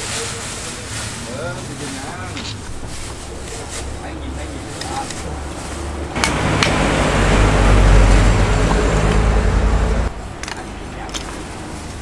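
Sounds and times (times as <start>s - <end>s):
engine rumbling: 0.3s - 12.0s.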